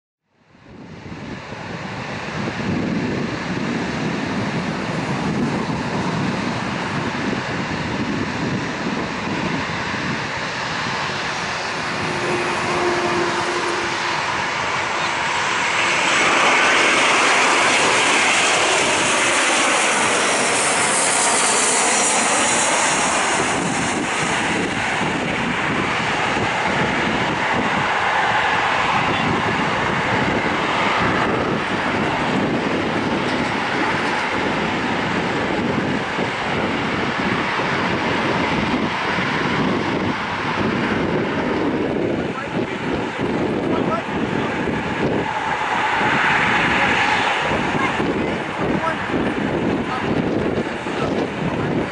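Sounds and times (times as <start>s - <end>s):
jet engines landing: 0.5s - 51.9s.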